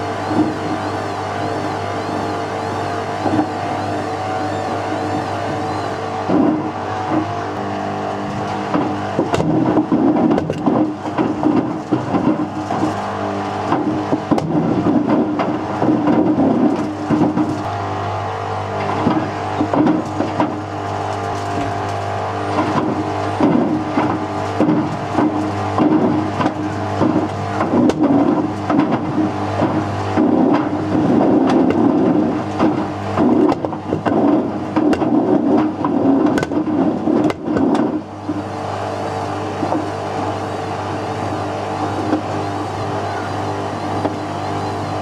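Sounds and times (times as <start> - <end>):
washing machine motor humming: 0.0 - 45.0.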